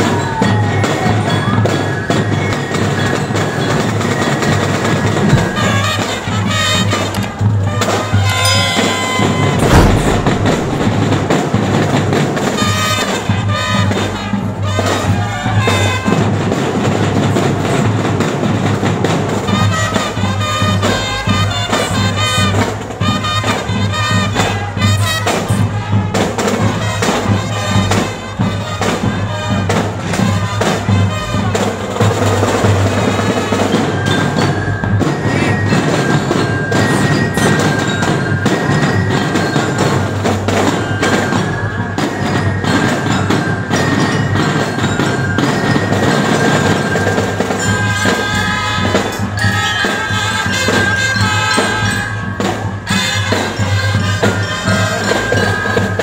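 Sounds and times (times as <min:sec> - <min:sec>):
brass and bell-lyre melody: 0:00.0 - 0:56.0
marching drums: 0:00.0 - 0:56.0.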